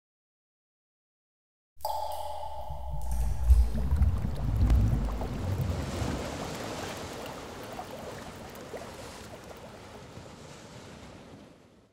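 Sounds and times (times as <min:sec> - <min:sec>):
rushing water: 0:01.8 - 0:11.8.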